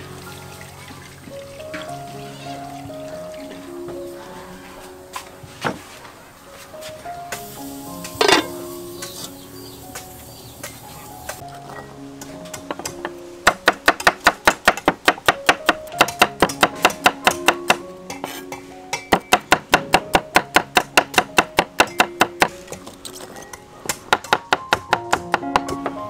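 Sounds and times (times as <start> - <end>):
background music: 0.0 - 26.0.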